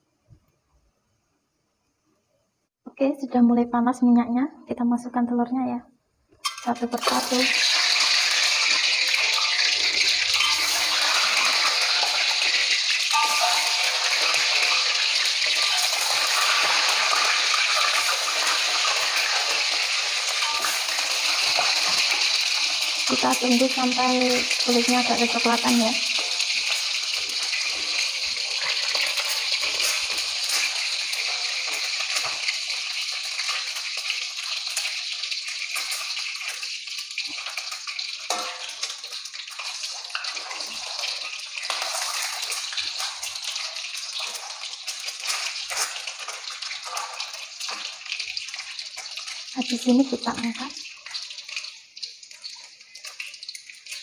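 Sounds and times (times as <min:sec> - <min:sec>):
eggs sizzling in hot oil: 0:06.4 - 0:54.0.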